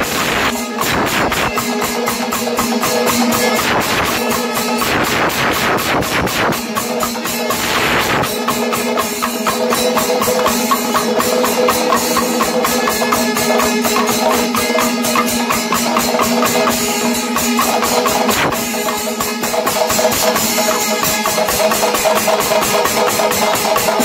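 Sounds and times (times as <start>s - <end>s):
cymbals: 0.0s - 24.0s
fast drum strokes: 0.0s - 24.0s
steady held tone: 0.0s - 24.0s.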